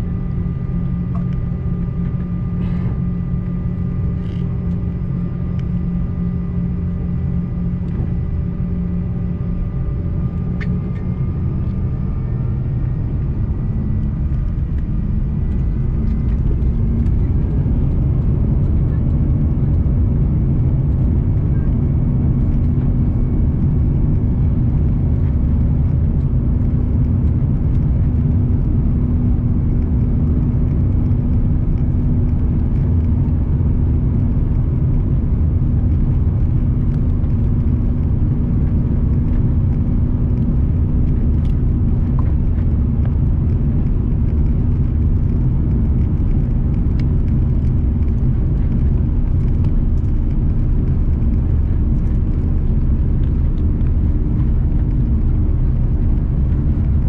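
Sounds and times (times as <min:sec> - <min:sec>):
airplane engines roaring at takeoff: 0:00.0 - 0:57.0
faint steady hum: 0:00.0 - 0:57.0.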